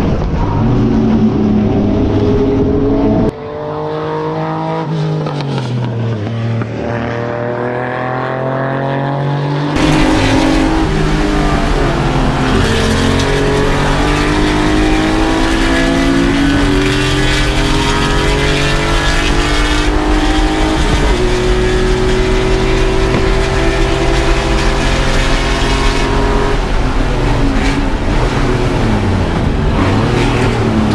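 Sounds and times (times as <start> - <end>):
race car engine revving: 0.0 - 30.9.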